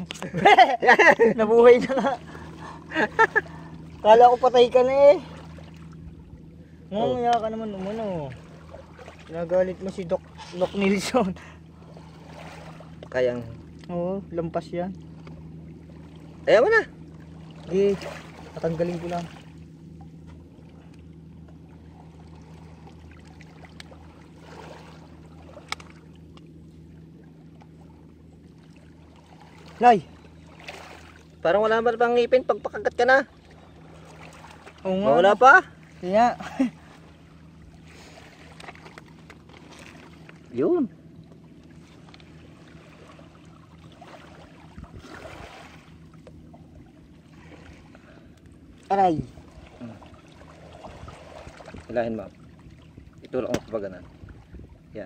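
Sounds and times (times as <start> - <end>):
low motor-like hum: 0.0 - 55.0
water lapping on shore: 0.0 - 55.0.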